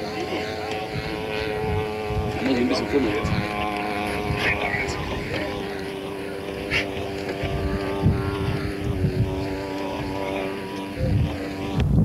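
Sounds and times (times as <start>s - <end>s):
low wind rumble: 0.0s - 12.0s
model aircraft engines droning: 0.0s - 12.0s.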